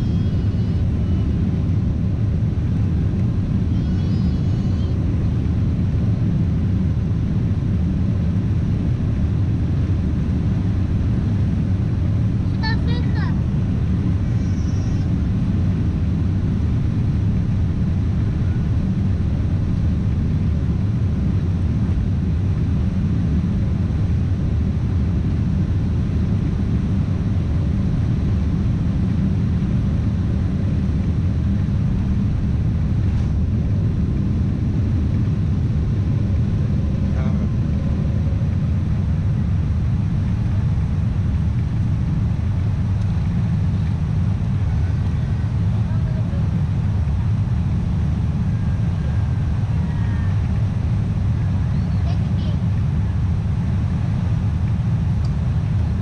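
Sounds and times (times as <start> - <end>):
jet engines and wheels rumbling: 0.0 - 56.0.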